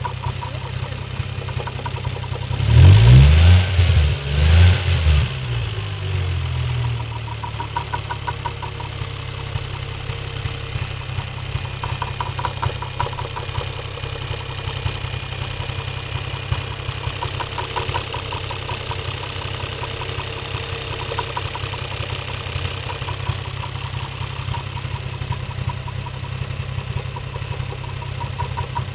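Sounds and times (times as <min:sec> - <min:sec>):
car engine idling: 0:00.0 - 0:28.9
rapid engine knock: 0:00.0 - 0:28.9.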